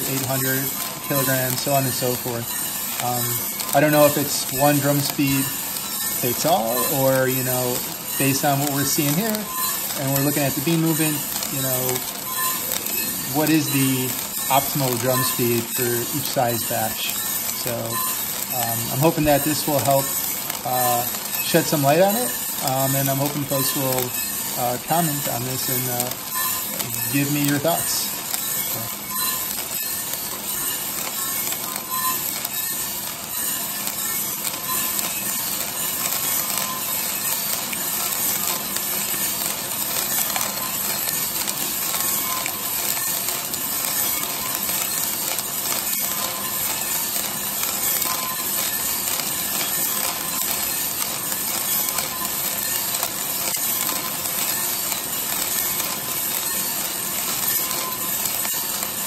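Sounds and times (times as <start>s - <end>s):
coffee beans rattling in drum: 0.0s - 59.0s.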